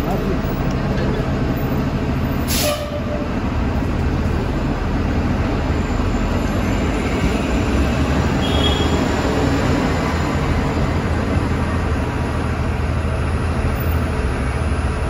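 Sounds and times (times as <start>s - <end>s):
buses idling: 0.0s - 15.0s
street traffic: 0.0s - 15.0s
subway train rumble: 0.0s - 15.0s.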